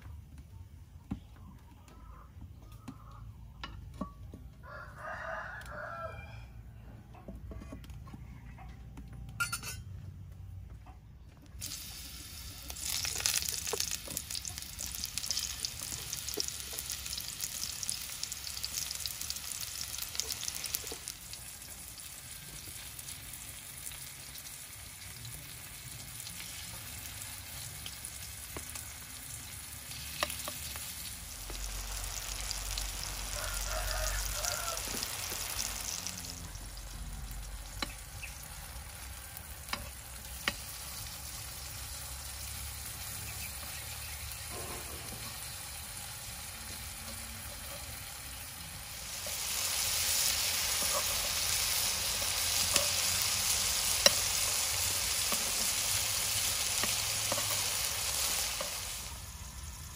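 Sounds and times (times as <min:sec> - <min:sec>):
slices sizzling in hot oil: 0:11.6 - 0:59.9.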